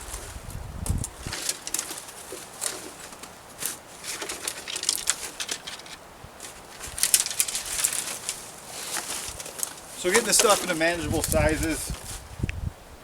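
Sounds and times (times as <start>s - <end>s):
brush and branches crackling: 0.0s - 12.6s.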